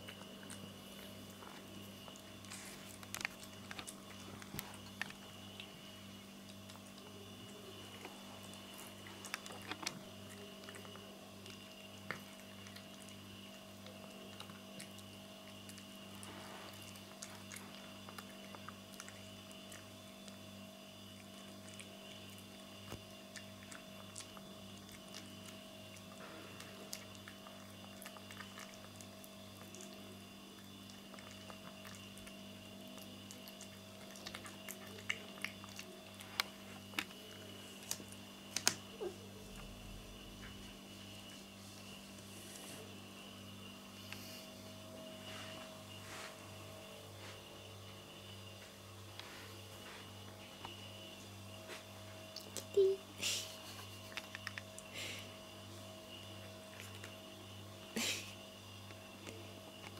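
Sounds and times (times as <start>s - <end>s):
cat chewing food: 0.0s - 46.0s, 53.5s - 59.9s
steady low hum: 0.0s - 59.9s.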